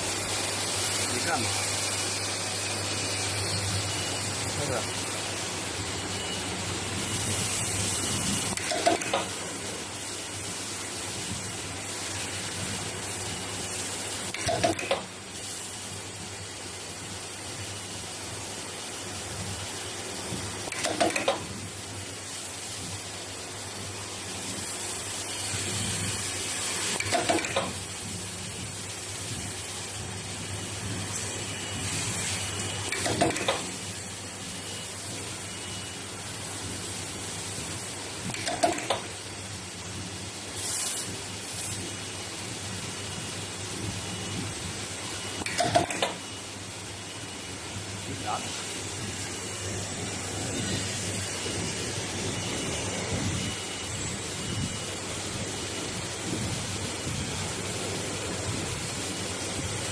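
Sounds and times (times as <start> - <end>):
machine feeder hum: 0.0 - 40.5, 41.1 - 59.9.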